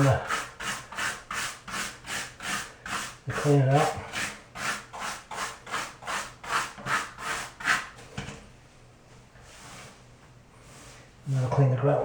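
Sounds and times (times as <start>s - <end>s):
brush scraping over tile: 0.0s - 8.0s, 9.4s - 11.5s.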